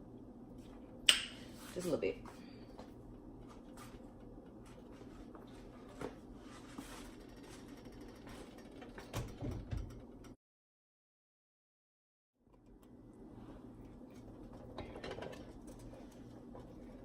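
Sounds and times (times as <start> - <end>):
steady low hum: 0.0 - 10.4, 12.4 - 17.0.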